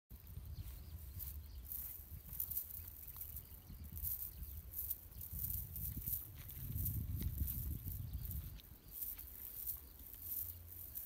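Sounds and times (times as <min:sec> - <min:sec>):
wind rumbling on microphone: 0:00.1 - 0:11.0
faint high rustles: 0:00.6 - 0:11.0.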